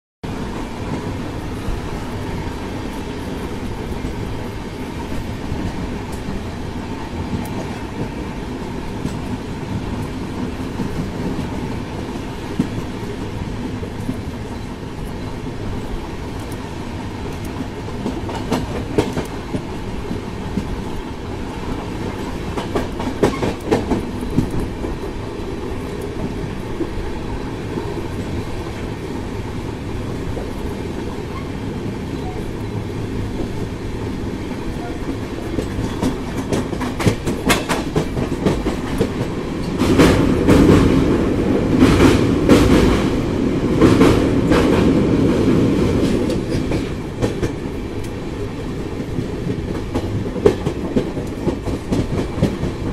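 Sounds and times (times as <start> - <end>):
train rumble: 0.2 - 52.9
train wheels clattering on rails: 0.3 - 52.9.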